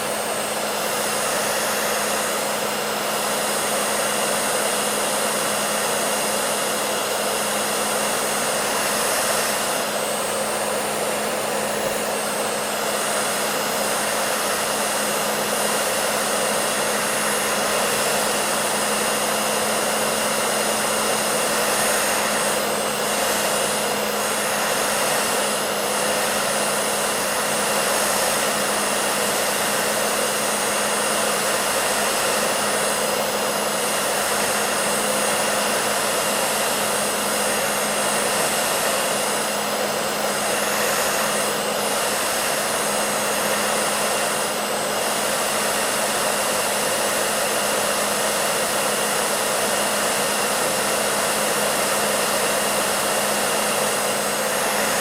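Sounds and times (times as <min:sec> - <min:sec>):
hair dryer blowing air: 0:00.0 - 0:55.0.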